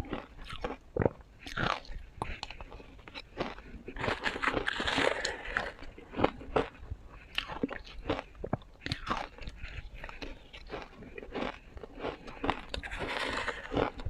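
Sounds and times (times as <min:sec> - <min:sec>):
chewing: 0:00.0 - 0:14.0
ice crunching between teeth: 0:00.0 - 0:14.0.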